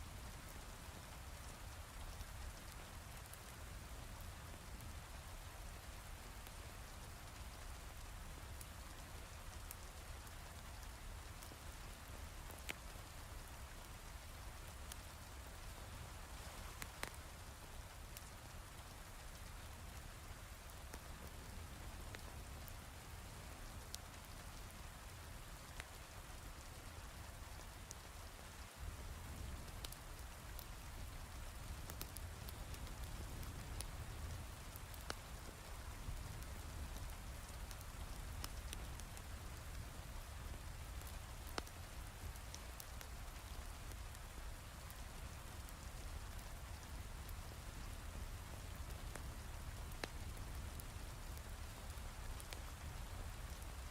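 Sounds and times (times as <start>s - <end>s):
sharp crackles and ticks: 0.2s - 53.9s.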